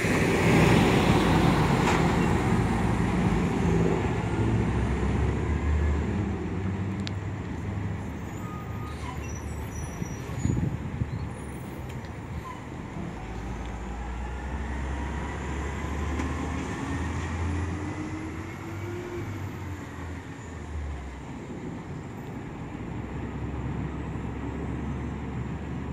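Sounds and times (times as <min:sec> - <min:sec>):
garbage truck diesel engines: 0:00.0 - 0:25.9.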